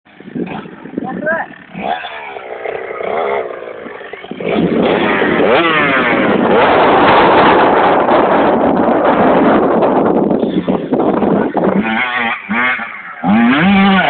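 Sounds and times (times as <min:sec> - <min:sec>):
dirt bike engine revving: 0:00.1 - 0:14.0.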